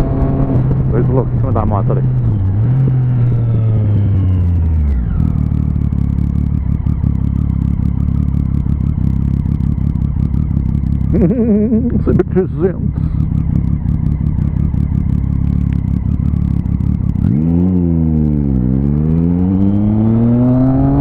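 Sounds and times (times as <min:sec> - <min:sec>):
motorcycle engine: 0:00.0 - 0:21.0.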